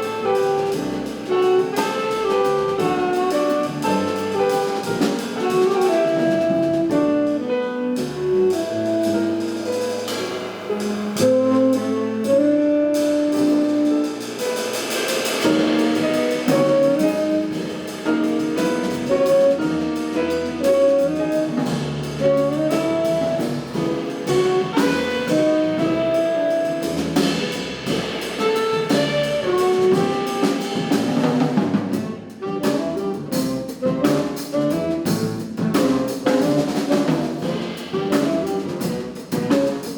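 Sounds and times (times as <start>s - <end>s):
saxophone melody: 0.0s - 10.1s, 10.7s - 14.3s, 15.5s - 27.2s, 28.4s - 39.7s
double bass: 0.0s - 39.9s
drum kit with busy cymbals: 0.0s - 39.9s
piano: 0.0s - 39.9s.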